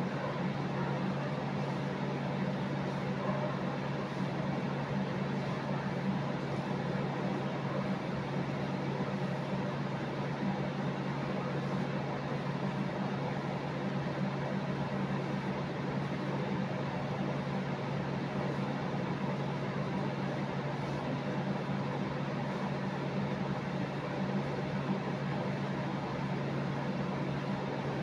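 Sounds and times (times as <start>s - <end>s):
mechanical hum with hiss: 0.0s - 28.0s.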